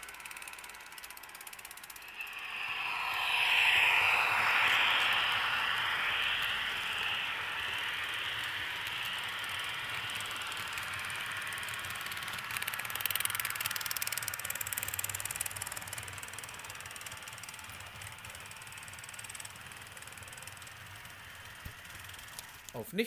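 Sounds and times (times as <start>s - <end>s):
model train wheels rattling: 0.0s - 22.8s.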